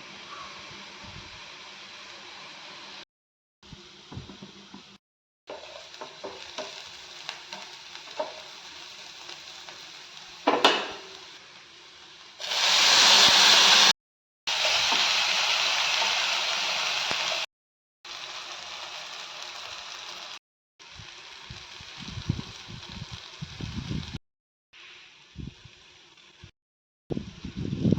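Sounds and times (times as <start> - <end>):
food sizzling in hot oil: 0.0 - 3.0, 3.7 - 17.5, 18.1 - 24.2, 24.8 - 26.5.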